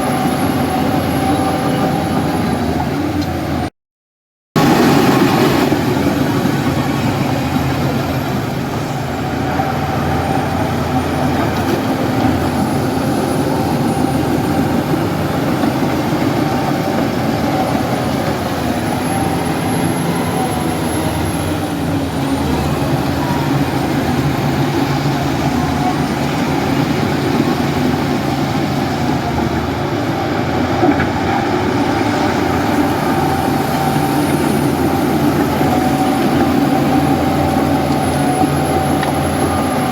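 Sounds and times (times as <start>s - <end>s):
heavy diesel engine running: 0.0s - 3.7s, 4.6s - 39.9s.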